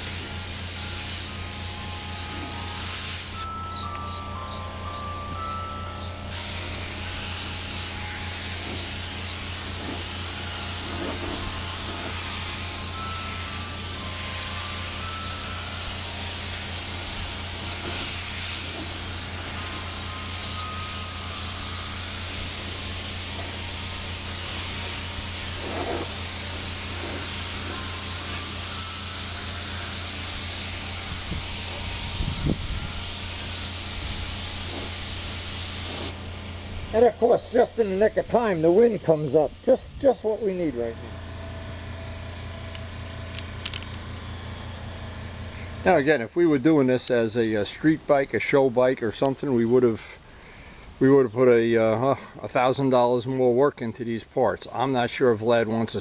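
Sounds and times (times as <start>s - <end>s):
spray paint hissing: 0.0s - 4.5s, 6.3s - 40.7s, 47.0s - 53.2s.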